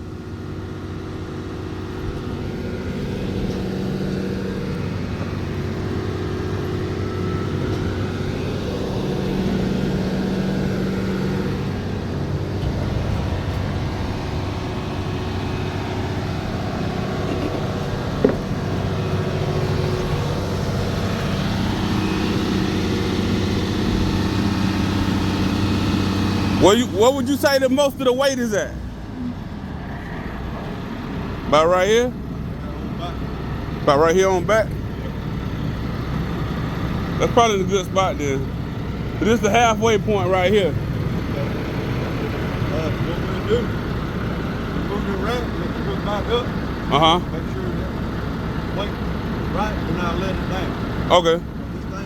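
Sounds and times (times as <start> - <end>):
diesel engine running under load: 0.0 - 52.0.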